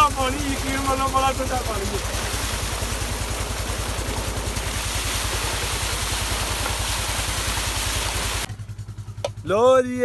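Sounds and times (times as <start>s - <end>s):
water jet splashing into tank: 0.0s - 8.5s
pump engine beating: 0.0s - 10.0s.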